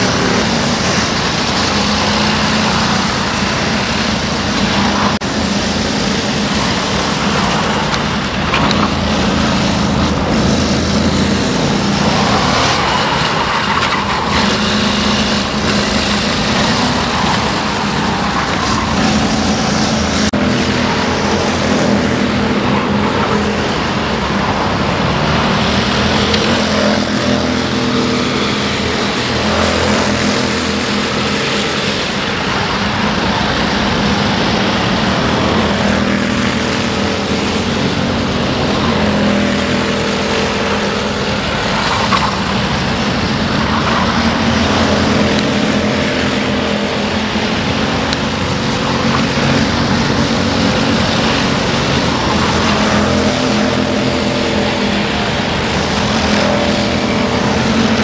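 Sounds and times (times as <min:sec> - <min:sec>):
go-kart engines passing: 0:00.0 - 0:58.0.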